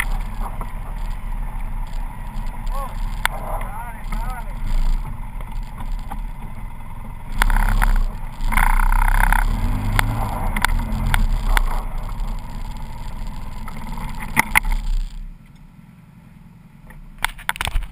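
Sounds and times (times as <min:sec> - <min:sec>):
off-road vehicle engine rumbling: 0:00.0 - 0:17.9.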